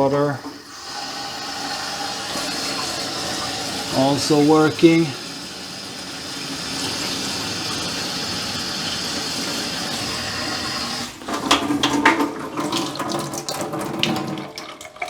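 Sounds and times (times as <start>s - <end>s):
faucet water running into sink: 0.0s - 15.0s.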